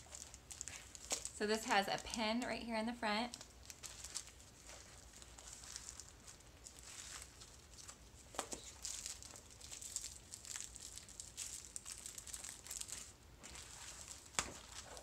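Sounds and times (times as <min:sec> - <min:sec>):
tissue paper rustling: 0:00.0 - 0:02.4, 0:03.3 - 0:15.0.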